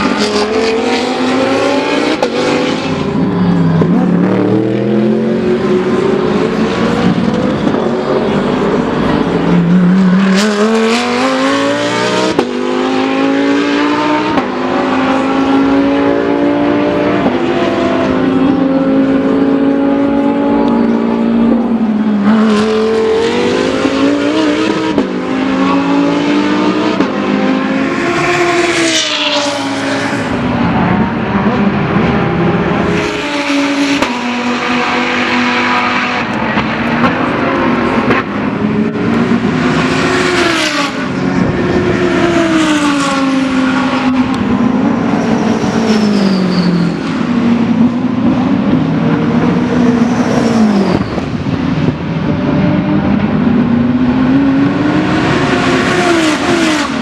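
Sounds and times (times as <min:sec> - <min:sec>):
race car engines at full throttle: 0:00.0 - 0:57.0.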